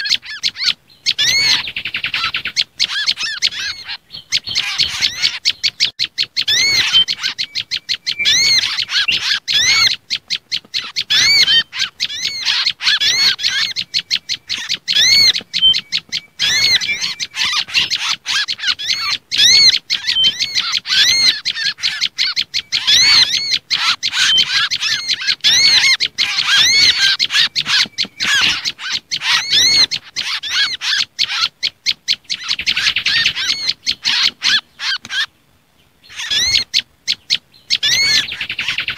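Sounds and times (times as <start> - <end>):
songbirds chirping rapidly: 0.0 - 38.9.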